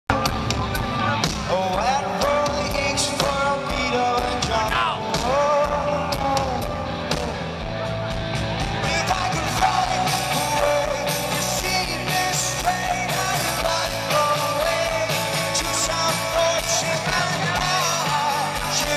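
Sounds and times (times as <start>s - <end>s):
man singing: 0.1s - 7.8s, 8.6s - 18.9s
drums: 0.1s - 18.9s
electric guitar: 0.1s - 18.9s.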